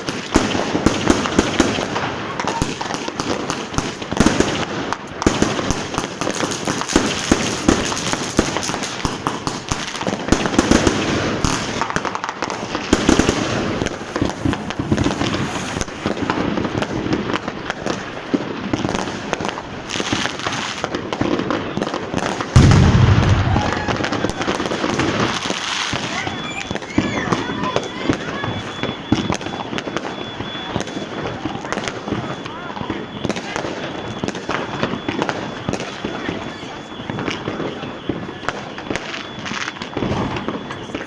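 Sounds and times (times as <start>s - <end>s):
firecracker cracks: 0.0s - 40.9s
firework bangs: 0.0s - 41.0s.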